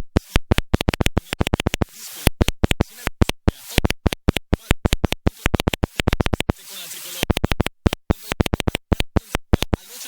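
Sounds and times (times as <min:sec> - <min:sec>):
radio hiss: 0:00.2 - 0:10.0.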